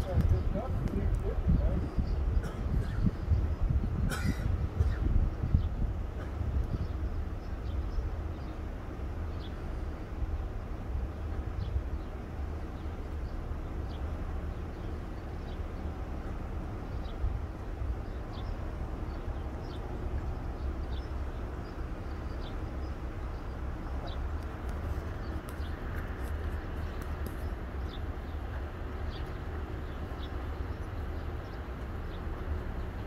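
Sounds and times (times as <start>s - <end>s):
low street rumble: 0.0s - 33.0s
small birds chirping: 0.0s - 33.0s.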